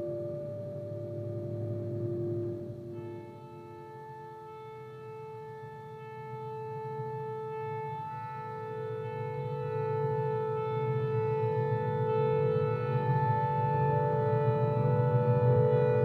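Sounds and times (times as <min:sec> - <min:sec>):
electric guitar drone: 0:00.0 - 0:16.0.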